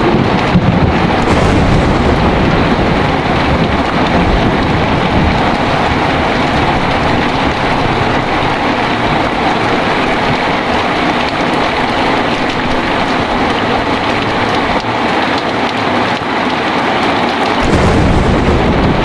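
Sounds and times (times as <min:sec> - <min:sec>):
thunder rumbling: 0:00.0 - 0:16.0, 0:17.4 - 0:19.0
heavy rain pouring: 0:00.0 - 0:19.0.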